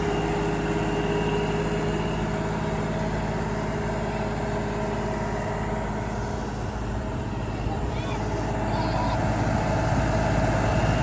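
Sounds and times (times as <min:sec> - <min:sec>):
tractor engine humming: 0:00.0 - 0:11.0.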